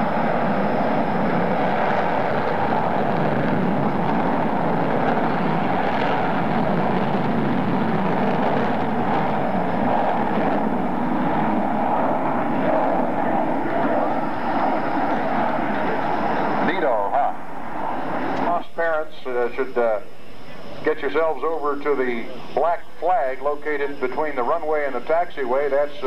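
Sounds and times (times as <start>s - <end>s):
jet engine noise: 0.0s - 26.0s.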